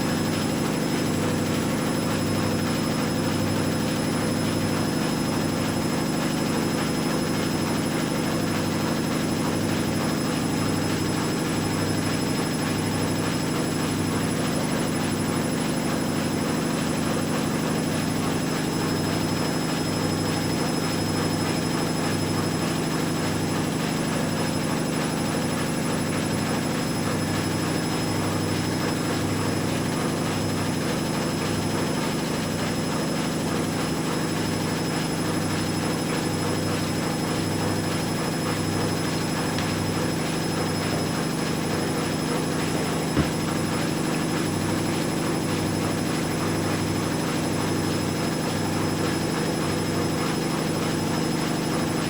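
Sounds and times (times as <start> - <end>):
washing machines spinning: 0.0 - 52.0.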